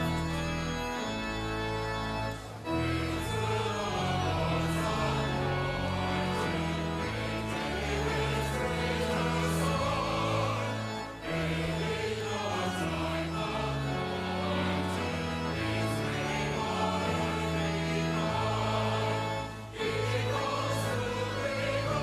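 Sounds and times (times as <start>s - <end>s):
choir singing a hymn: 0.0s - 22.0s
pipe organ: 0.0s - 22.0s.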